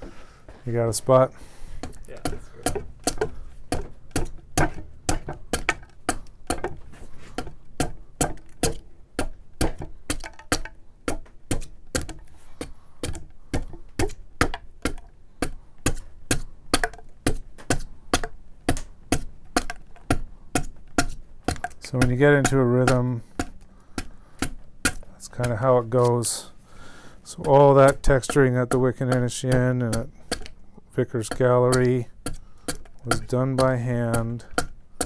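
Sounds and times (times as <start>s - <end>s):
adze chopping wood: 1.1s - 35.0s.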